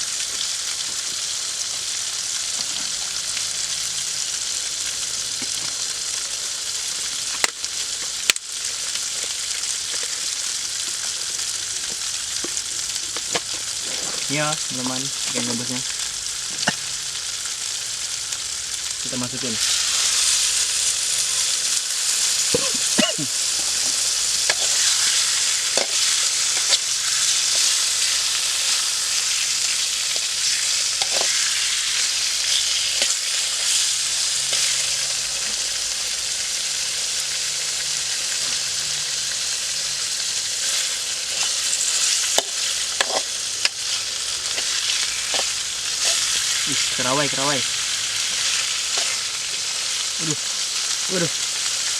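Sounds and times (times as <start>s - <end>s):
fish sizzling in hot oil: 0.0s - 51.9s
oil popping and crackling: 0.0s - 51.9s.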